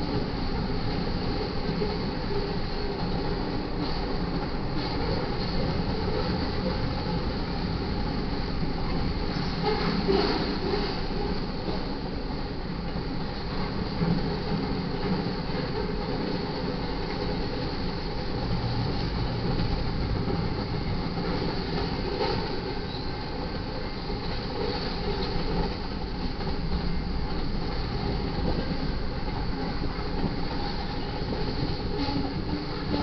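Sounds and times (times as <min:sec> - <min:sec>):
freight train wheels rolling on rail: 0:00.0 - 0:33.0.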